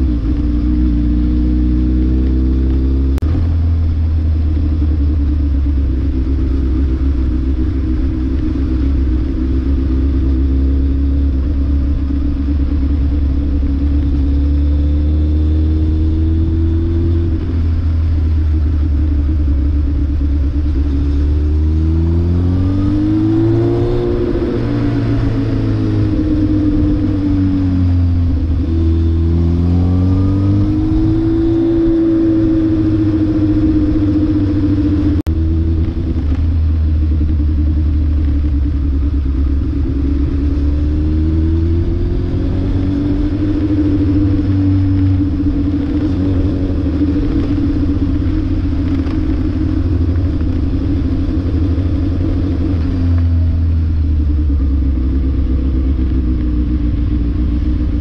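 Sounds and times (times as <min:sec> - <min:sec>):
low rumble of road noise: 0:00.0 - 0:58.0
vehicle engine revving: 0:00.0 - 0:58.0.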